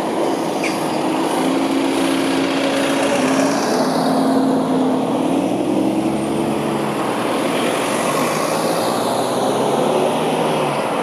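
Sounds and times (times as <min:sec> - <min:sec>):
engine drone in slow traffic: 0:00.0 - 0:11.0.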